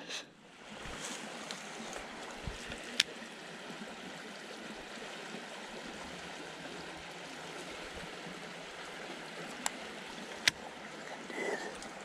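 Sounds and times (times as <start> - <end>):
creek water running: 0.4 - 12.0.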